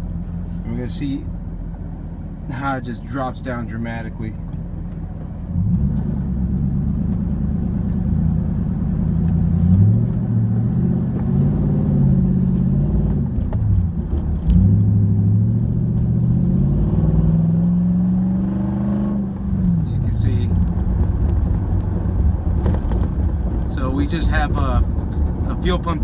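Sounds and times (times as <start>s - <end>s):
car engine accelerating: 4.3s - 26.0s.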